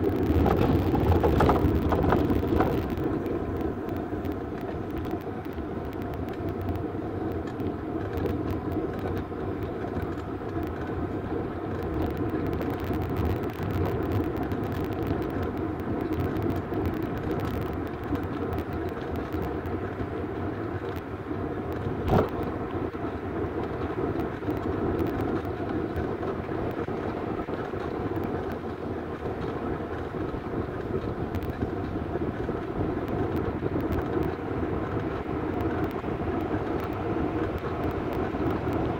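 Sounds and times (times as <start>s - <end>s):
bicycle tyre road noise: 0.0s - 38.9s
faint steady hum: 0.0s - 38.9s.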